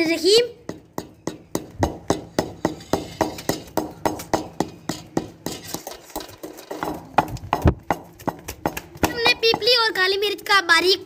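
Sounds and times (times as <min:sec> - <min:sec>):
pestle pounding in marble mortar: 0:00.5 - 0:10.5.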